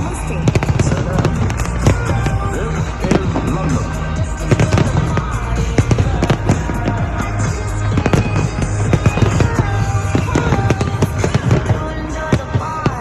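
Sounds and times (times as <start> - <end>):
fireworks bangs and crackles: 0.0 - 13.0
loud music: 0.0 - 13.0.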